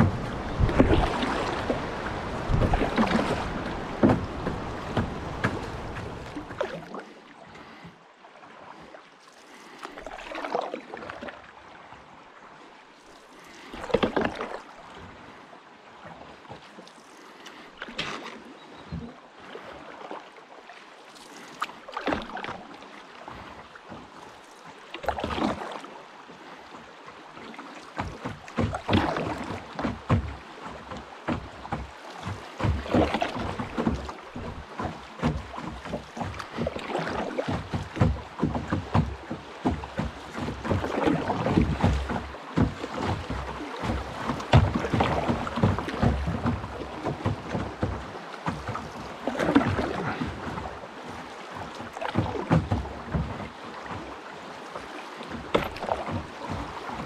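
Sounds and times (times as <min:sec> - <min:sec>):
paddle splashes: 0:00.0 - 0:57.0
water sloshing around boat: 0:00.0 - 0:57.0.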